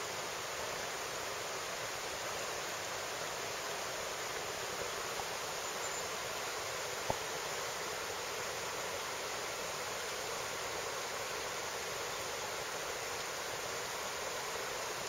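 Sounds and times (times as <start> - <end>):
river water over rocks: 0.0 - 15.0.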